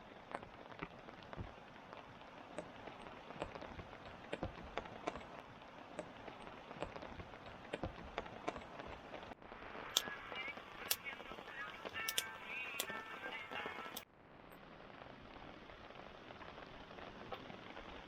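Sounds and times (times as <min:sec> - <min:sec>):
raindrops ticking: 0:00.0 - 0:18.0
steady rain hiss: 0:00.0 - 0:18.0.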